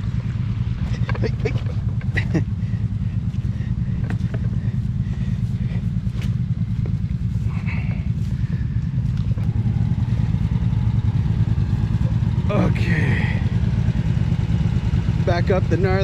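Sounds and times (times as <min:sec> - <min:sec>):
atv engine rumbling: 0:00.0 - 0:16.0.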